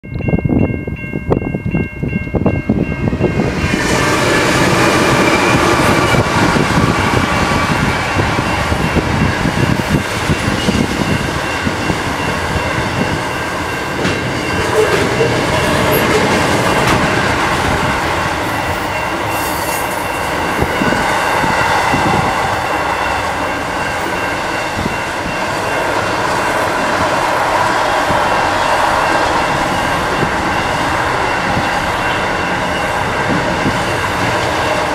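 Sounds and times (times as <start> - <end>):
train wheels on rails: 0.0 - 34.9.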